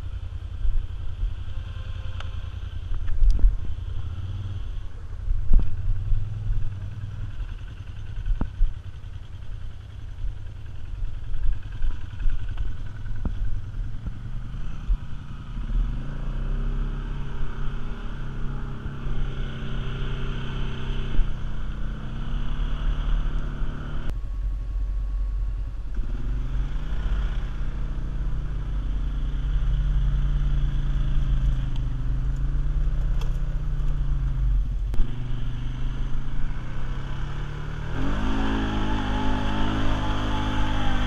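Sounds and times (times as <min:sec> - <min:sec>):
all-terrain vehicle engine rumbling: 0:00.0 - 0:41.0.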